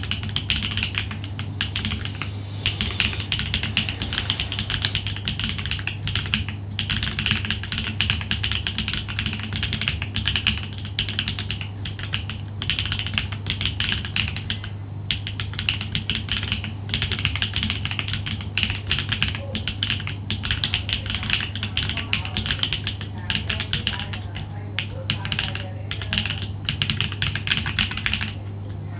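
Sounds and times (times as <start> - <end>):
mechanical keyboard typing: 0.0 - 28.4
steady low hum: 0.0 - 28.9.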